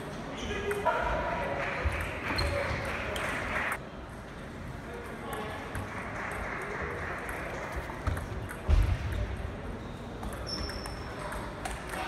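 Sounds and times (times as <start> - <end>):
murmur of sports hall: 0.0 - 12.0.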